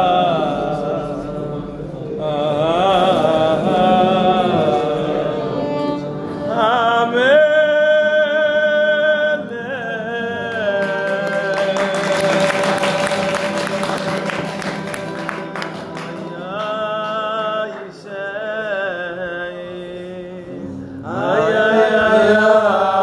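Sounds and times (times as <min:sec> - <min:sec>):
man singing: 0:00.0 - 0:23.0.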